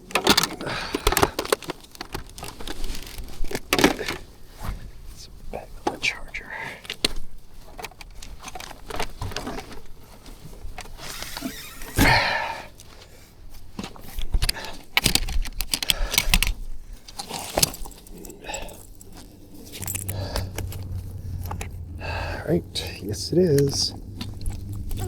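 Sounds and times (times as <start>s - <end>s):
gear handling clicks and knocks: 0.0s - 4.7s, 5.8s - 11.0s, 11.6s - 25.0s.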